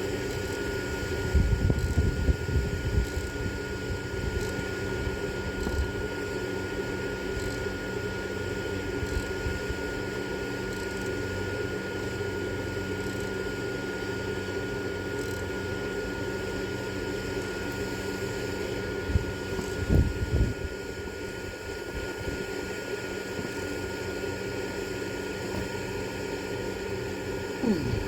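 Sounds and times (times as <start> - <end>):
machine hum with high whine: 0.0 - 28.0.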